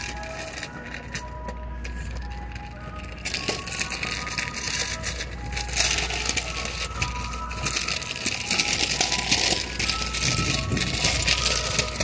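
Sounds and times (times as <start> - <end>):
faint ice cream truck jingle: 0.0 - 12.0.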